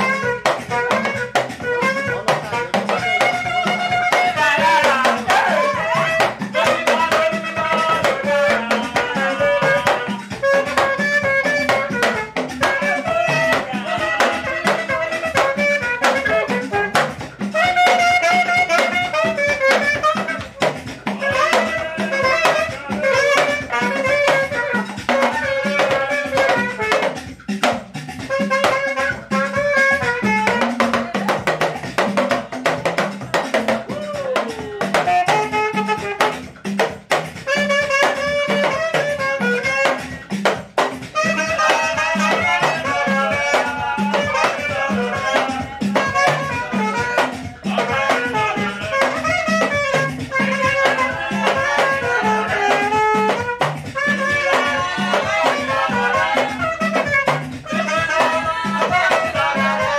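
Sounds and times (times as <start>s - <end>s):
drum and bass beat: 0.0s - 59.9s
saxophone melody: 0.0s - 59.9s.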